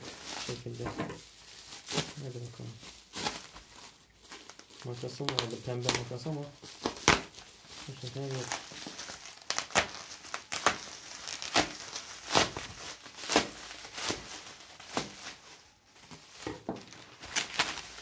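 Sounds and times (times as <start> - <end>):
bubble wrap crinkling and crackling: 0.0 - 18.0.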